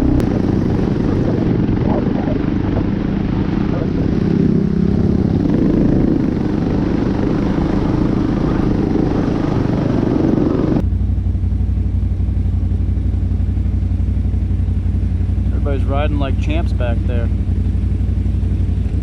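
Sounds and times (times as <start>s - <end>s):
atv engine running: 0.0s - 19.0s
rattle and road noise: 0.0s - 19.0s.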